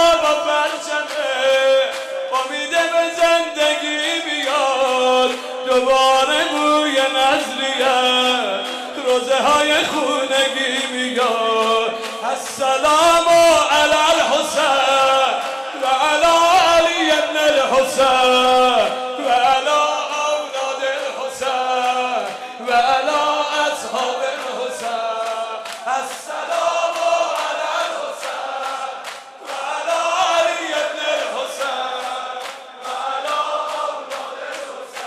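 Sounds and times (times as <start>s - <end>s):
man chanting: 0.0s - 28.7s
congregation singing in chorus: 0.0s - 35.0s.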